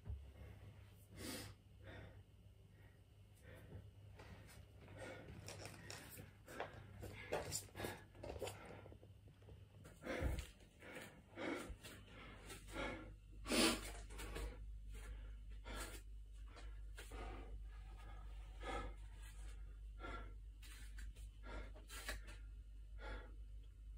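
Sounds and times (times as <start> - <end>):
steady low hum: 0.0 - 23.9
man breathing heavily: 0.2 - 9.0, 9.8 - 23.9.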